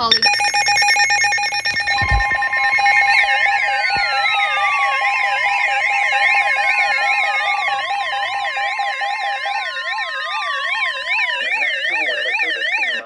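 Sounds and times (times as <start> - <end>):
fast pulsing alarm tone: 0.0 - 13.0
tones sliding downward: 0.0 - 13.0
wavering siren-like wail: 0.0 - 13.0.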